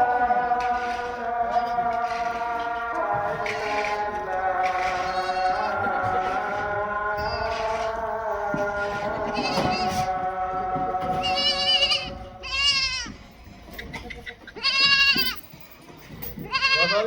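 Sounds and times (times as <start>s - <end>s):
goats bleating: 0.0s - 15.4s, 16.4s - 17.0s.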